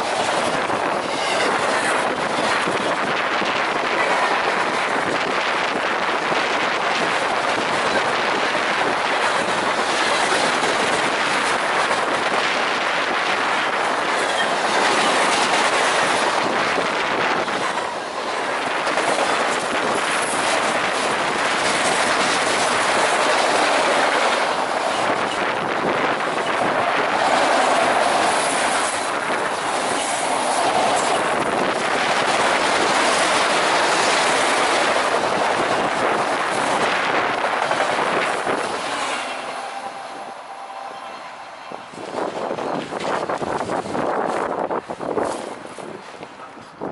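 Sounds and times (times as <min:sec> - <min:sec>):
freight train wheels rumbling on rails: 0:00.0 - 0:46.9.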